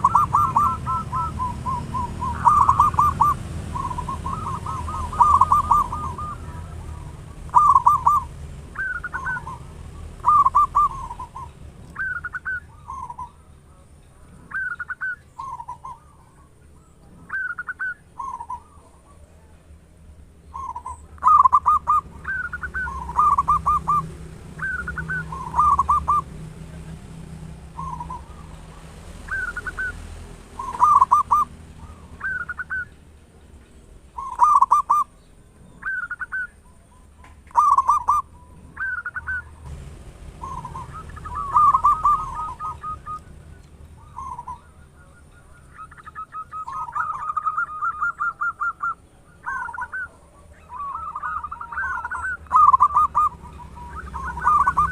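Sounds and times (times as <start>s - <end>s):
dove cooing: 0.0s - 19.6s, 20.4s - 33.0s, 34.2s - 36.7s, 37.5s - 39.8s, 40.4s - 54.9s.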